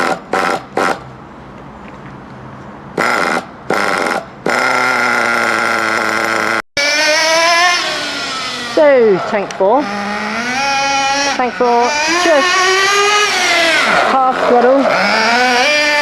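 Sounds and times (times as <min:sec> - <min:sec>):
model engine running and revving: 0:00.0 - 0:01.0, 0:03.0 - 0:16.0.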